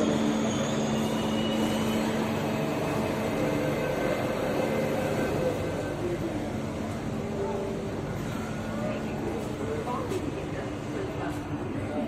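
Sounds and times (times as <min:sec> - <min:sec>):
metro train running: 0:00.0 - 0:12.0.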